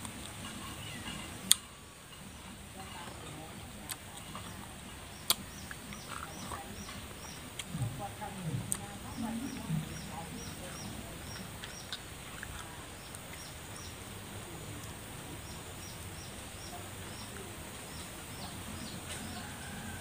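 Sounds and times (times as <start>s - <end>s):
outdoor background hiss: 0.0s - 20.0s
bird chirping: 0.4s - 20.0s.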